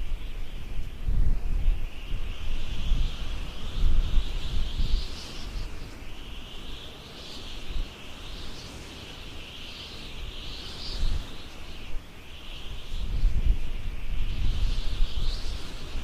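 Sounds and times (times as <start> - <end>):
high-pitched insect chorus: 0.0 - 16.0
wind rumble on microphone: 0.0 - 16.0.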